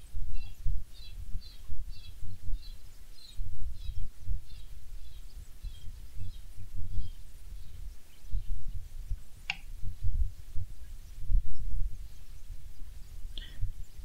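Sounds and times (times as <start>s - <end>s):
small bird chirping: 0.0s - 9.8s, 10.6s - 14.0s
low rumbling bumps: 0.0s - 14.0s.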